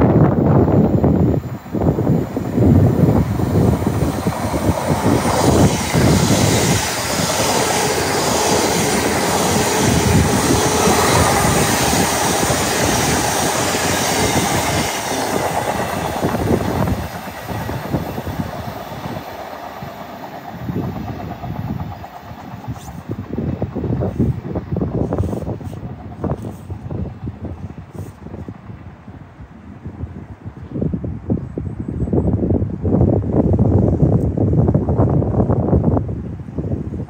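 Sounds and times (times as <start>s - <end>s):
train passing: 0.0s - 30.6s
wind buffeting microphone: 0.0s - 37.0s.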